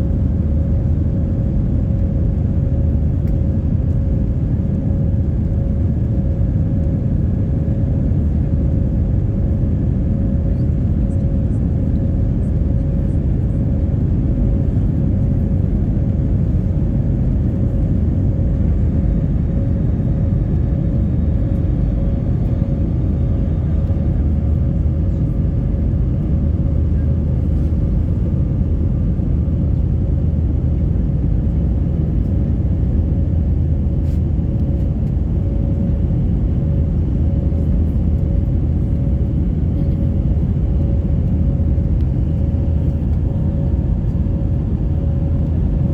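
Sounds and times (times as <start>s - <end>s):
faint constant hum: 0.0s - 45.9s.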